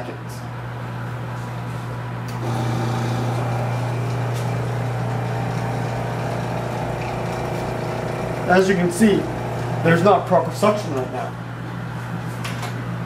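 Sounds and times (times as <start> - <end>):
vacuum pump humming: 2.2 - 13.0.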